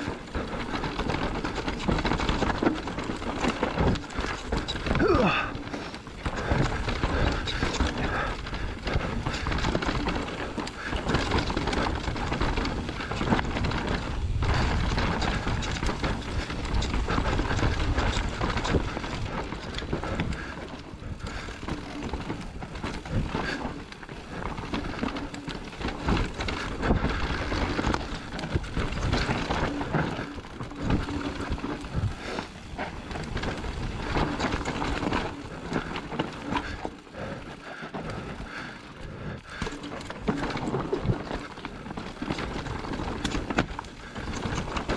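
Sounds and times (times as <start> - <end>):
bike rattling and knocking: 0.0 - 44.9
tyres rolling on dirt and stones: 0.0 - 44.9.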